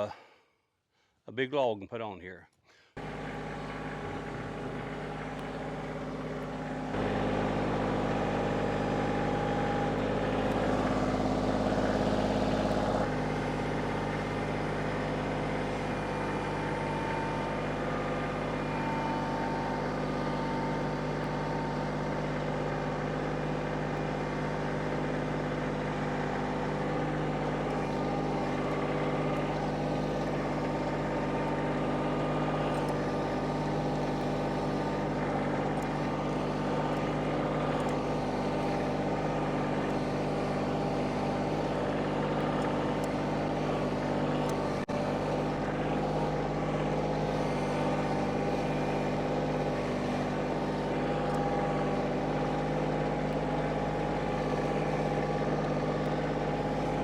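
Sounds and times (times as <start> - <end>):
tractor diesel engine running: 2.7 - 57.0.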